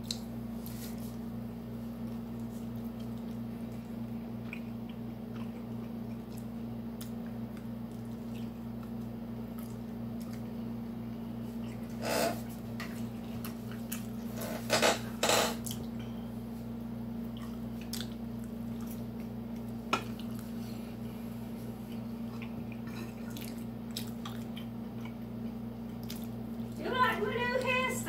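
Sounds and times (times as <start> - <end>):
person chewing: 0.0 - 1.2, 2.0 - 14.4, 17.2 - 26.8
steady low hum: 0.0 - 28.0.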